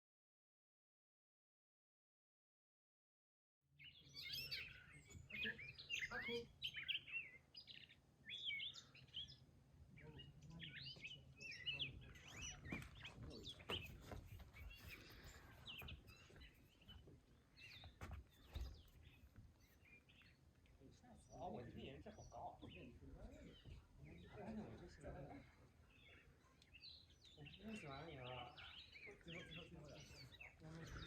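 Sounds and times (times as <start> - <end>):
songbirds chirping: 3.7 - 31.0.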